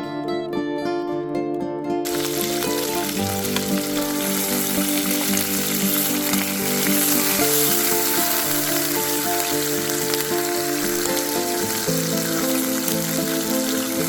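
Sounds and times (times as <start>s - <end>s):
background music of held notes: 0.0s - 14.0s
meat sizzling in hot oil: 2.1s - 14.0s.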